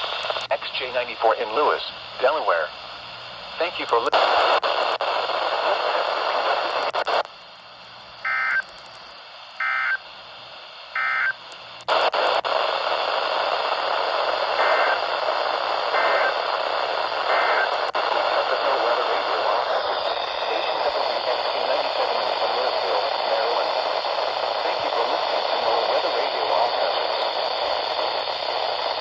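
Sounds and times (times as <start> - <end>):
radio static hiss: 0.0 - 29.0.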